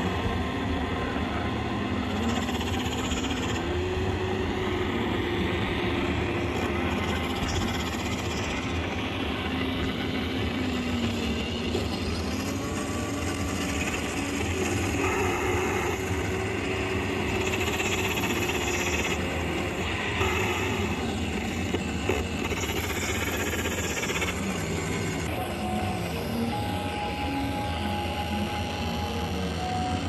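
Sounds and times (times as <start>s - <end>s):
electronic synthesizer drone: 0.0s - 30.0s
sliding synth tones: 0.0s - 30.0s.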